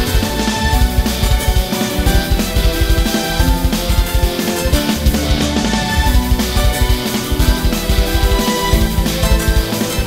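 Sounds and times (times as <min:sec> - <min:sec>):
music with fast driving beat: 0:00.0 - 0:10.0.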